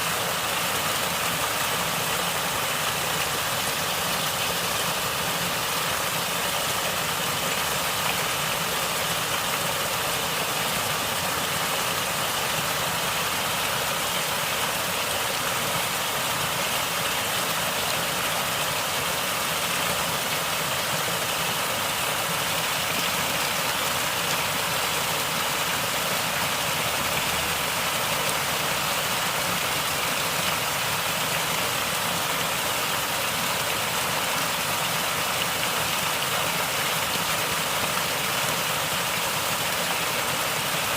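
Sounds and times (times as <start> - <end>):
stream water gurgling and rushing: 0.0 - 40.9.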